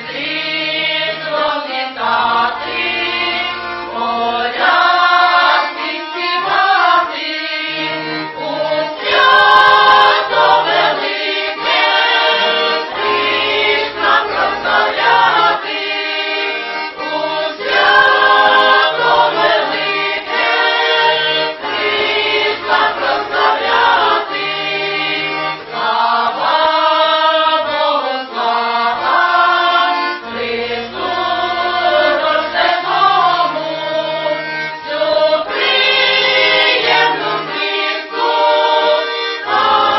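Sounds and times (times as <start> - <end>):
accordion: 0.0 - 39.9
women's choir singing: 0.0 - 39.9.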